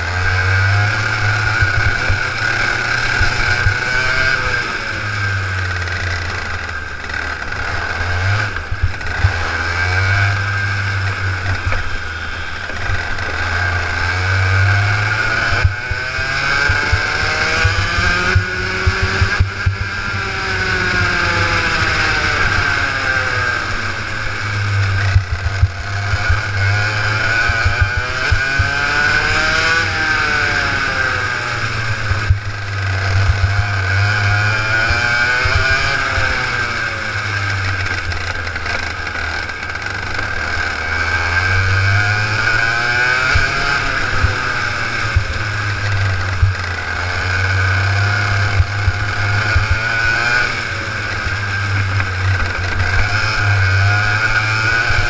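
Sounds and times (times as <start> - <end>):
two-stroke kart engine revving: 0.0 - 55.0.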